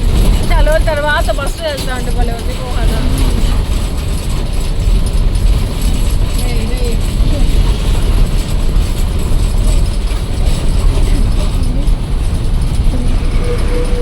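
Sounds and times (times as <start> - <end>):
bus body and windows rattling: 0.0 - 14.0
bus engine rumble: 0.0 - 14.0.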